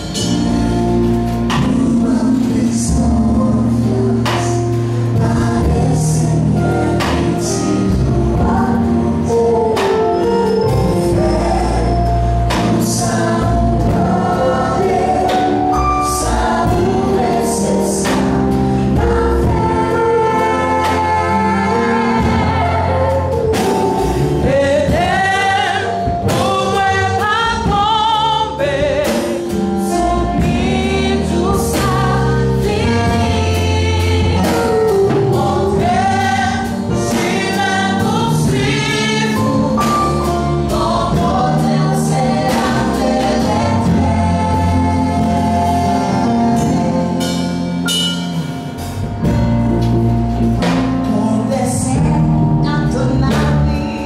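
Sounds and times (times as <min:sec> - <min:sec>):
choir singing: 0:00.0 - 0:54.0
gospel band playing: 0:00.0 - 0:54.0
women singing lead: 0:01.5 - 0:47.2.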